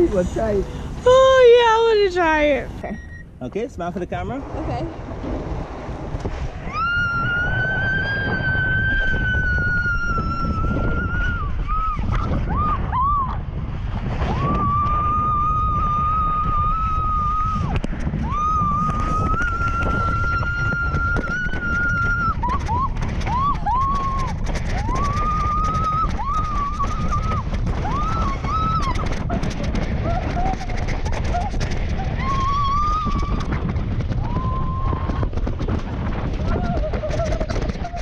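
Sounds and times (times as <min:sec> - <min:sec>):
wind on microphone: 0:00.0 - 0:38.0.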